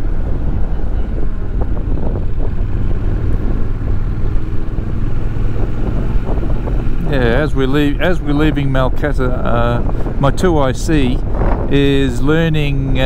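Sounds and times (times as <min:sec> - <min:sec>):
motorcycle engine drone: 0:00.0 - 0:13.0
wind rushing over microphone: 0:00.0 - 0:13.0.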